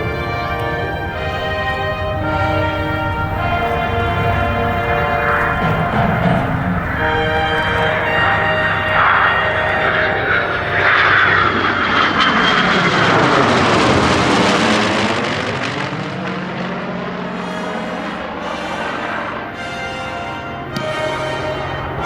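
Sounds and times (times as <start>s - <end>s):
aircraft engine flypast: 0.0s - 22.0s.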